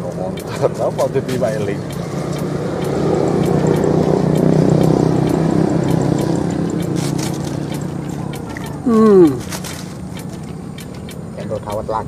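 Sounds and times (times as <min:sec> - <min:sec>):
motor droning past: 0:01.1 - 0:10.9.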